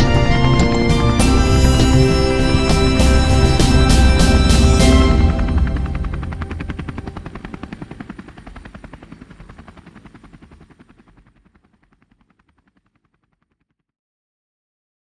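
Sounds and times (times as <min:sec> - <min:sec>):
helicopter rotor beating: 0:00.0 - 0:13.7.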